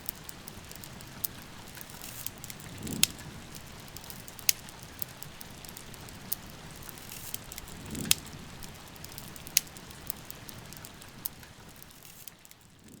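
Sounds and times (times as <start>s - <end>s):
steady rain: 0.0s - 13.0s
wood fire crackling and popping: 0.0s - 13.0s.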